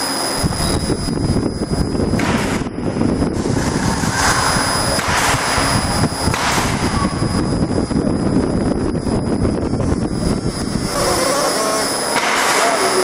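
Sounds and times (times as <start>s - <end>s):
high machine whine: 0.0s - 13.0s
rumbling rush of air: 0.2s - 13.0s.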